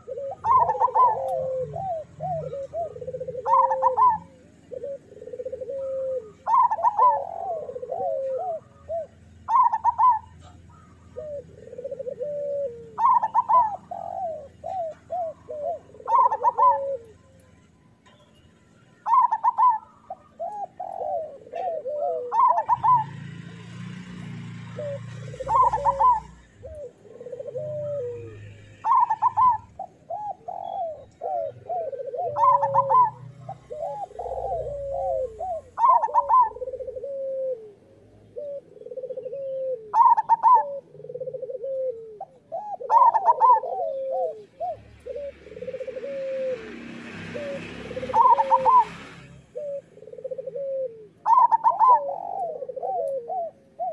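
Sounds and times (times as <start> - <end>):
doves cooing: 0.0 - 18.2, 19.0 - 53.9.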